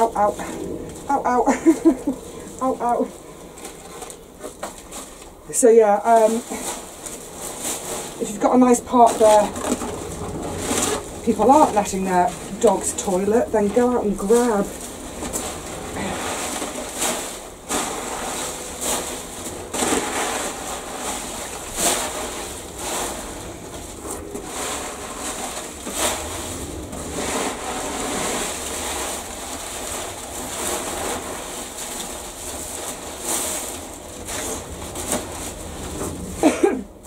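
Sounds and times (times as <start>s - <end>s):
leaves rustling and crunching: 0.0s - 36.8s.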